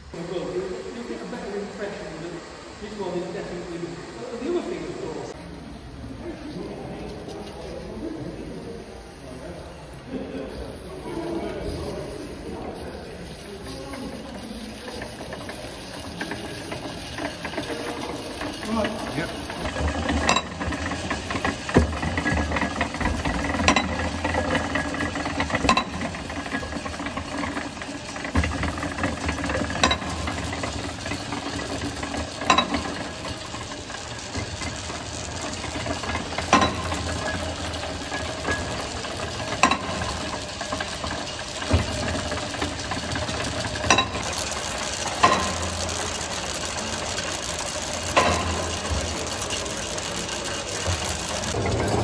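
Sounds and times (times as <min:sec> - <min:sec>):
steam engine mechanical clatter: 0:06.4 - 0:52.0.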